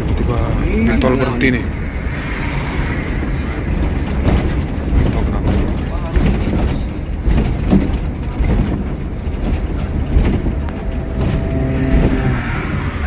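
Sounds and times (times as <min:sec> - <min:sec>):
vehicle traffic rumble: 0:00.0 - 0:13.0.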